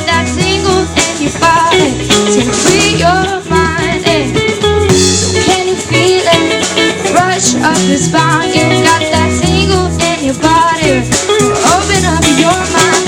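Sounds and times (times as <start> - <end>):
acoustic guitar: 0.0 - 13.0
bass: 0.0 - 13.0
shaker percussion: 0.0 - 13.0.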